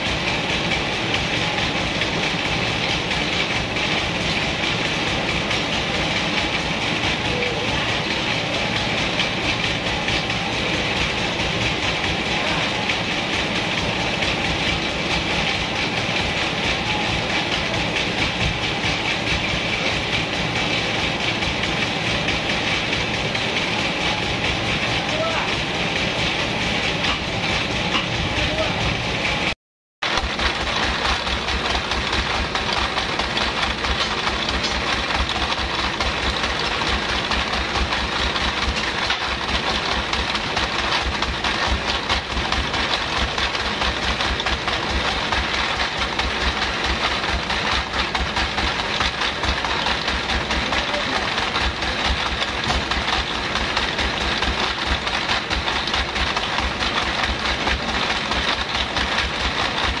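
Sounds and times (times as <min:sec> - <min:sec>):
sawmill machinery drone: 0:00.0 - 1:00.0.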